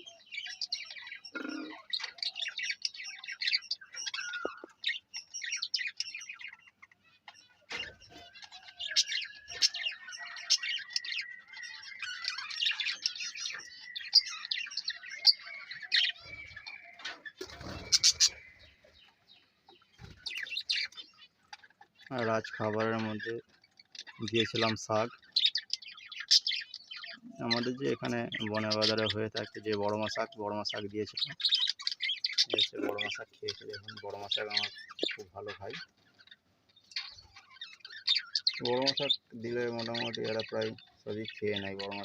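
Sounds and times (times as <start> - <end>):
budgerigars chattering: 0.0 - 42.0.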